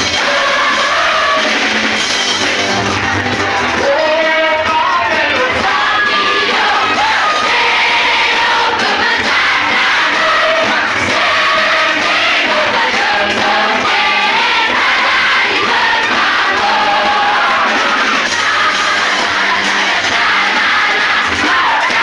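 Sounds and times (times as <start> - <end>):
crowd singing: 0.0 - 22.0.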